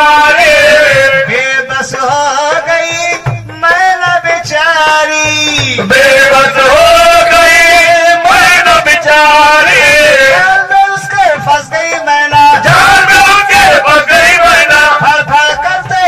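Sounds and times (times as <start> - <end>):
man singing devotional song: 0.0 - 16.0
music: 0.0 - 16.0.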